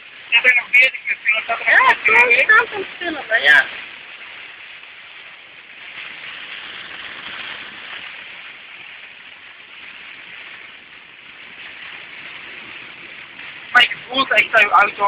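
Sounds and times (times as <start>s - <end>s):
heavy rain and tyre spray: 0.0s - 15.0s.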